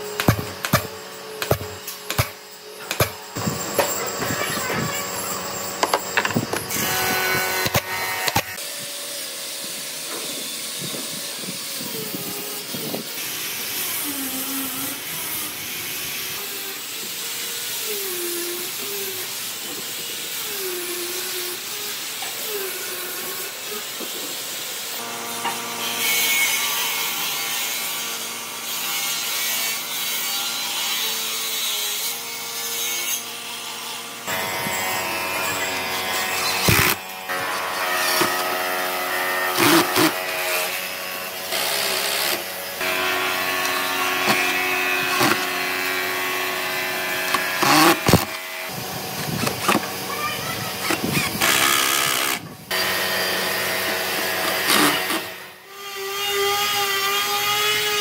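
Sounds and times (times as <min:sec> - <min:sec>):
small electric power tool running: 0:00.0 - 0:58.0
sawing wood strokes: 0:00.2 - 0:58.0.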